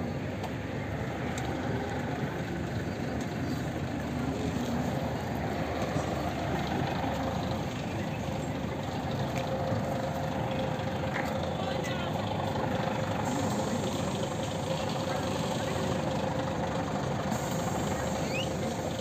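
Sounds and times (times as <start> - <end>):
bus engine idling: 0.0 - 19.0
street traffic noise: 0.0 - 19.0.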